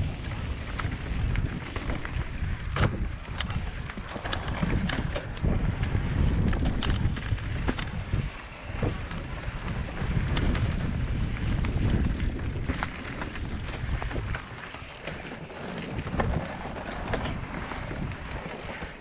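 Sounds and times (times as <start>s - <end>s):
bike clicking and rattling: 0.0s - 19.0s
tyres rumbling on dirt trail: 0.0s - 19.0s
wind buffeting microphone: 0.0s - 19.0s.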